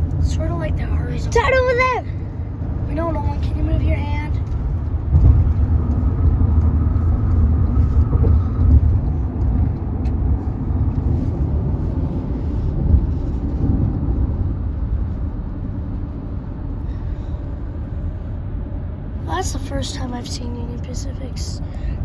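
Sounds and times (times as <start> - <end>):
vehicle rumble: 0.0 - 22.0.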